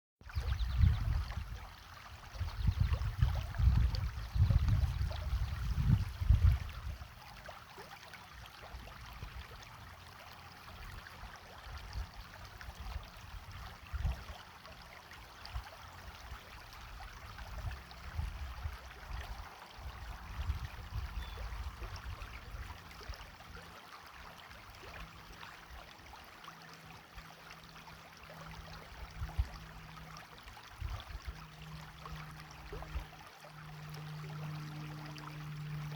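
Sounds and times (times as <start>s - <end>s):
stream trickling: 0.2s - 35.9s.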